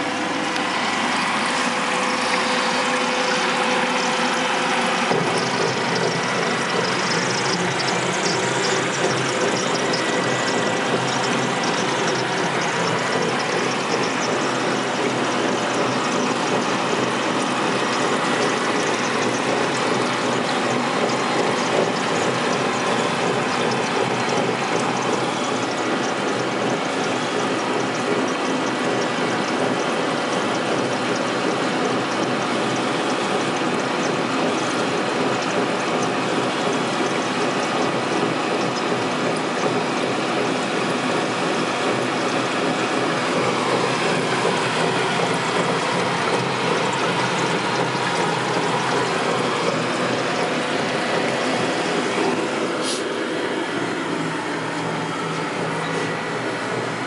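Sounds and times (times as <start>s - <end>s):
circulating liquid: 0.0s - 57.0s
whirr of drive rollers: 0.0s - 57.0s.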